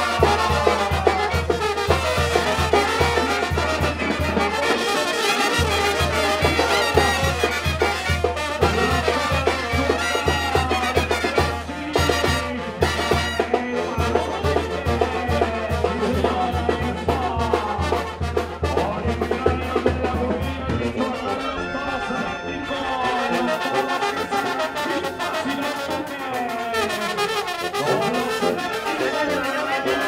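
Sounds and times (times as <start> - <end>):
trumpets and trombones: 0.0 - 30.0.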